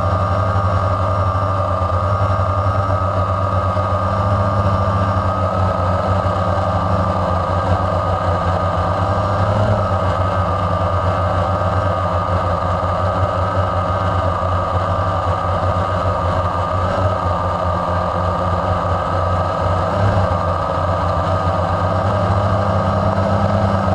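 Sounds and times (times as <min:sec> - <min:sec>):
model aircraft engine whining: 0:00.0 - 0:23.9.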